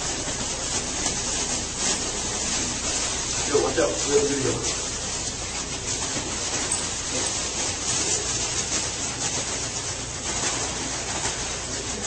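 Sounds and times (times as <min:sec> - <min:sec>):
plastic wrap pulled off roll: 0:00.0 - 0:12.0.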